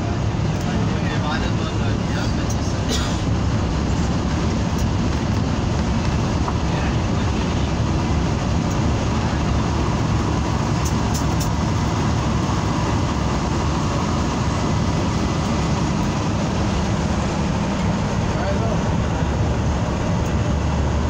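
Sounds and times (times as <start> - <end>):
coach engine: 0.0 - 21.0.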